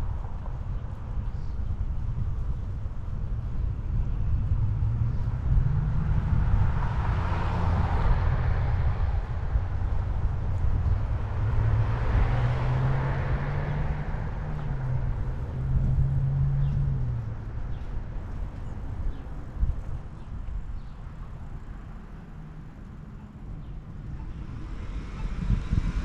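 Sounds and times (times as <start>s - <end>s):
vehicles passing: 0.0s - 26.0s
wind rumble on microphone: 0.0s - 26.0s.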